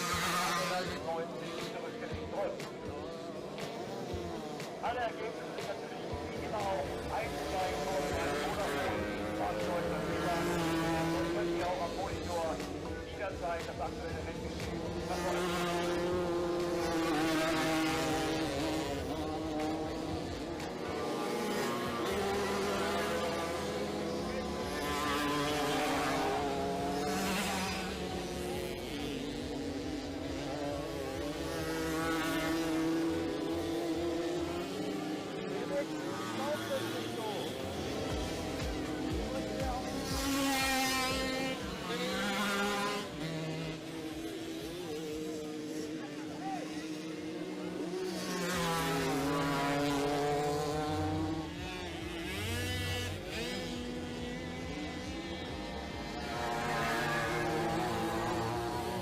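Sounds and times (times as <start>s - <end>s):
moped engines buzzing at high revs: 0.0s - 59.0s.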